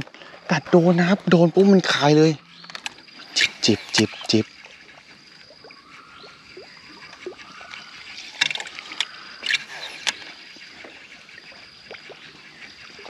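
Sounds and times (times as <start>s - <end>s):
water dripping and trickling: 0.0s - 13.0s.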